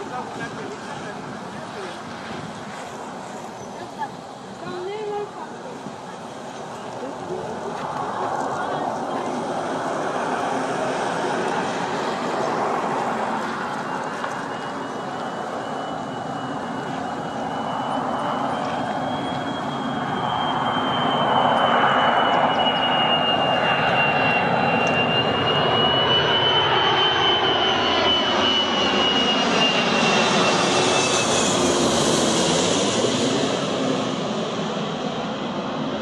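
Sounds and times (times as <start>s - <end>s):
jet airliner flying overhead: 0.0s - 36.0s.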